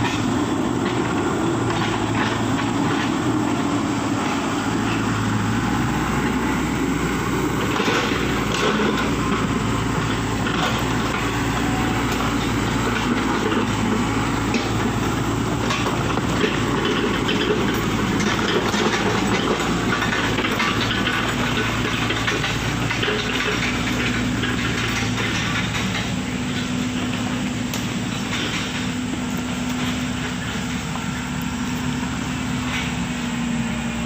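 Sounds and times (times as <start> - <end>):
diesel engine drone: 0.0 - 34.0
machinery rattling and clatter: 0.0 - 34.0.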